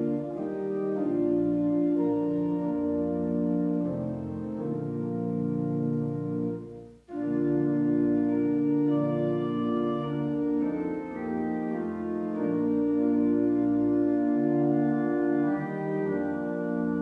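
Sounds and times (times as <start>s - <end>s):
church organ chords: 0.0s - 17.0s.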